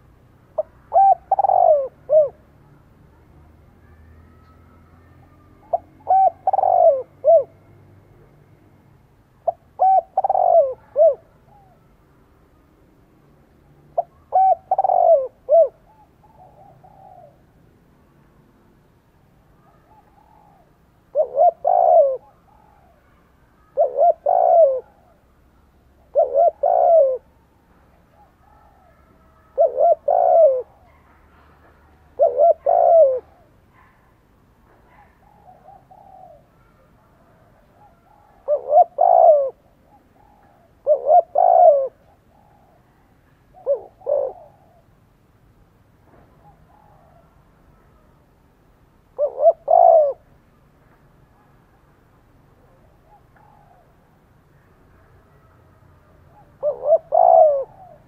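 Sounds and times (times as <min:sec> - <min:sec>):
dove cooing: 0:00.0 - 0:03.2, 0:03.8 - 0:08.4, 0:09.4 - 0:12.0, 0:13.9 - 0:17.6, 0:19.6 - 0:45.1, 0:46.1 - 0:48.4, 0:49.1 - 0:50.4, 0:52.6 - 0:58.0.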